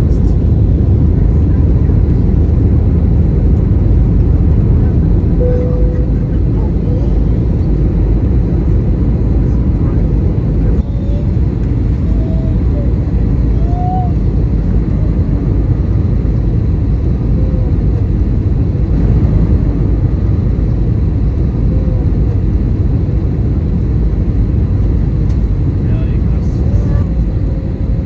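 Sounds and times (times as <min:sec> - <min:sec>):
airliner cabin engine roar: 0:00.0 - 0:28.0.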